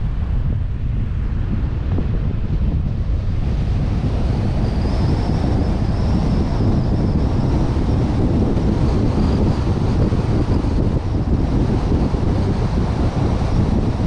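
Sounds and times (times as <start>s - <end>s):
road and engine noise: 0.0s - 14.0s
wind buffeting microphone: 0.0s - 14.0s.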